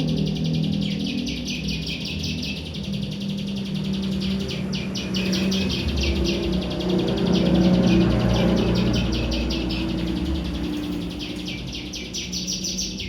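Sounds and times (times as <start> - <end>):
songbird chattering: 0.0 - 13.0.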